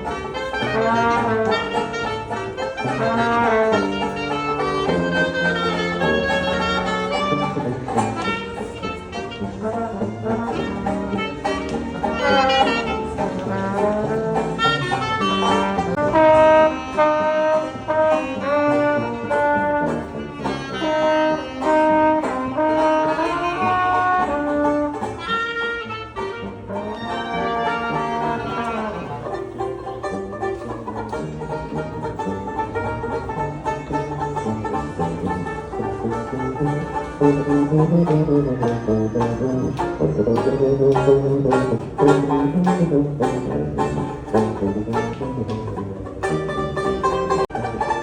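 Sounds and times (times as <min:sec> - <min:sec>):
banjo: 0:00.0 - 0:48.0
brass horns playing jazz melody: 0:00.0 - 0:48.0.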